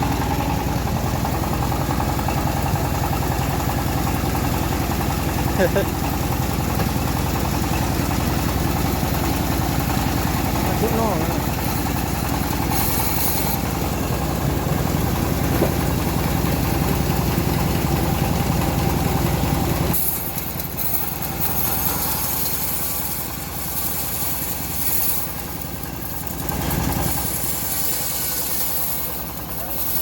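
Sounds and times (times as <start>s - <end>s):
engine-driven bandsaw mill running: 0.0s - 30.0s.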